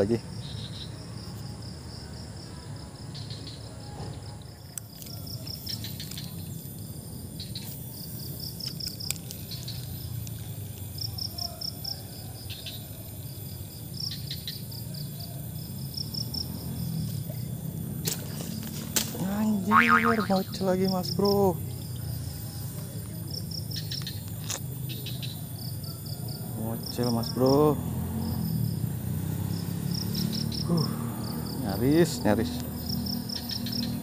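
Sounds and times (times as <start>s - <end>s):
insects chirping in trills: 0.0s - 34.0s.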